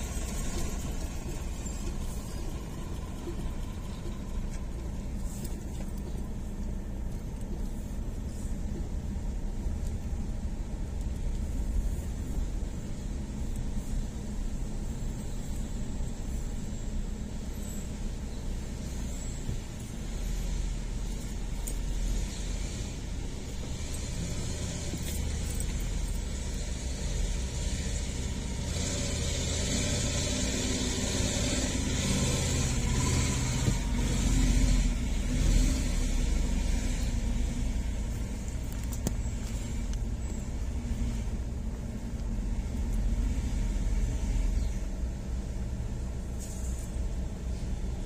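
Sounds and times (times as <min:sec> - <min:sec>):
diesel truck engines rumbling: 0:00.0 - 0:48.0.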